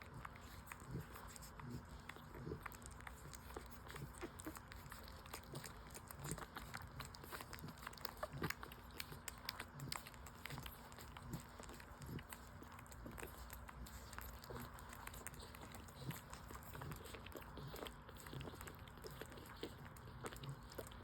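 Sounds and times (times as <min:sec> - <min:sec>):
puppies suckling: 0:00.0 - 0:21.0.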